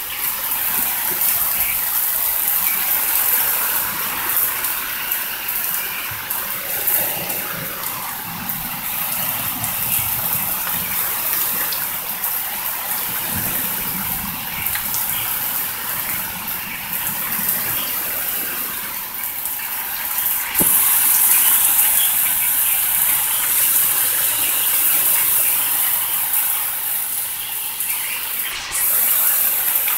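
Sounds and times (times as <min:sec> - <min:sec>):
heavy rain: 0:00.0 - 0:29.9
wind: 0:00.0 - 0:29.9.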